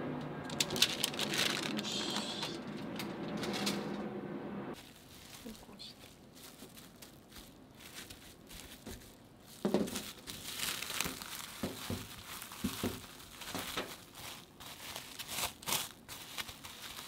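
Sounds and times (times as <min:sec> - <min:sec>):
cling film crinkling: 0:00.5 - 0:03.9, 0:04.8 - 0:17.0.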